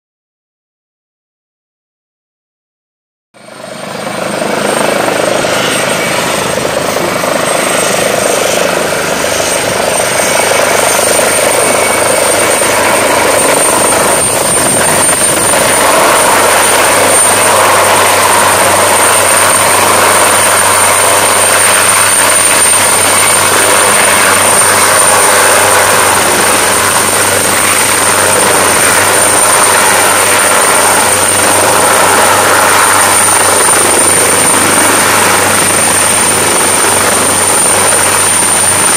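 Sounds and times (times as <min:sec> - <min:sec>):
helicopter rotor and turbine noise: 0:03.4 - 0:38.9
high-pitched turbine whine: 0:03.4 - 0:38.9.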